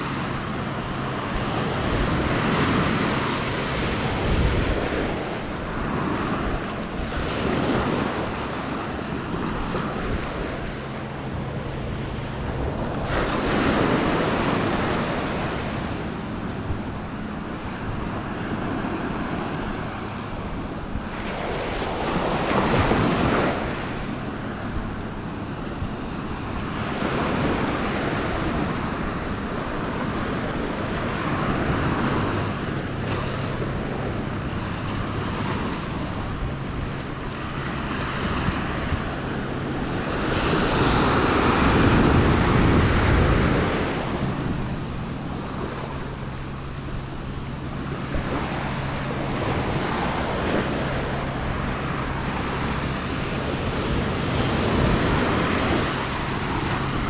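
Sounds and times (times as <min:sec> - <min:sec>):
small waves breaking on beach: 0:00.0 - 0:57.0
wind buffeting microphone: 0:00.0 - 0:57.0.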